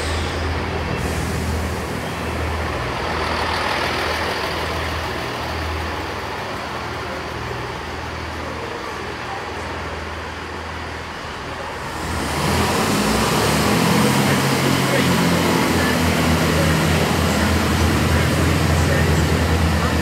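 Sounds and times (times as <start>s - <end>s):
train diesel engine hum: 0.0s - 20.0s.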